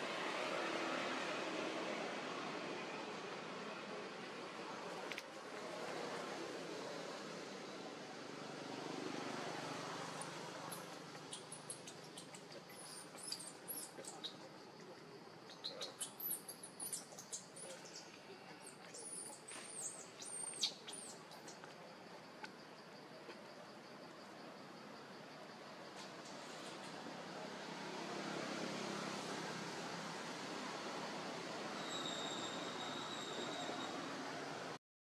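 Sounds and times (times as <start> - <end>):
low steady hiss: 0.0 - 31.9.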